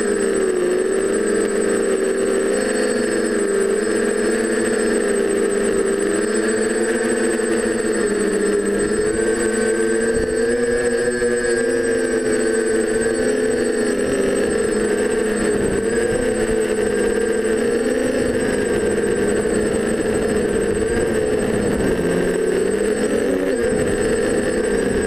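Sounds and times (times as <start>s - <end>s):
drone motors whirring: 0.0s - 25.0s.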